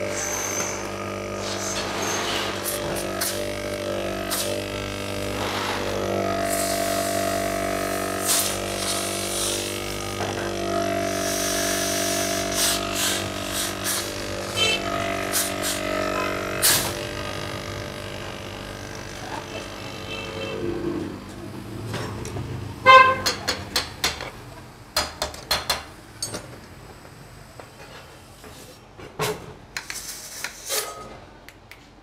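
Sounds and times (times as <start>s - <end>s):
compressor electrical hum and buzz: 0.0s - 29.8s.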